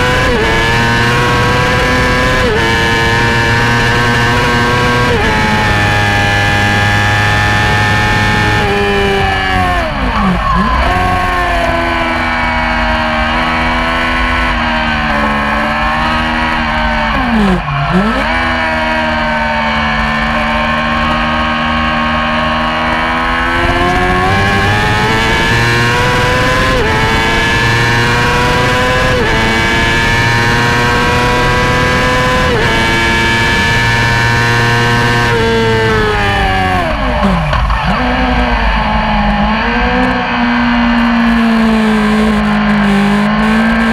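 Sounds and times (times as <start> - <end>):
race engine at high revs: 0.0 - 43.9.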